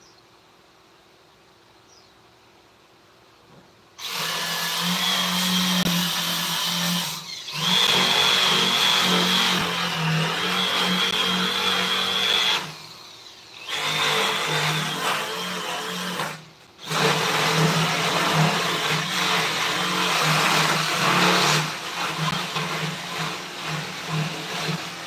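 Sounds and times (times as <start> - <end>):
electric power tool whining: 4.0 - 25.0.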